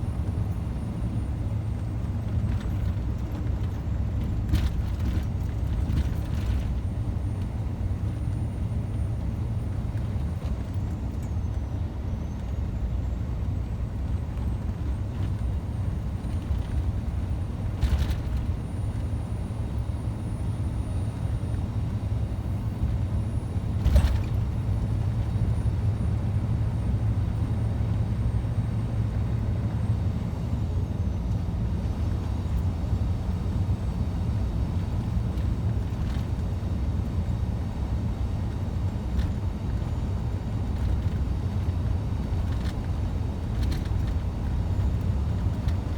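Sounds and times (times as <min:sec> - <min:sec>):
diesel truck engine droning: 0:00.0 - 0:45.9.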